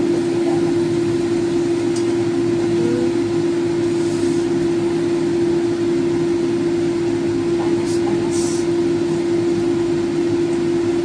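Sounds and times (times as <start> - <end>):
motor hum with whooshing: 0.0 - 11.0.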